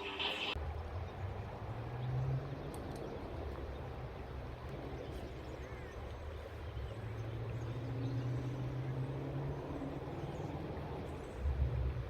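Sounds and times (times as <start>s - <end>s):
faint outdoor background noise: 0.0s - 12.0s
low motor hum: 0.0s - 12.0s.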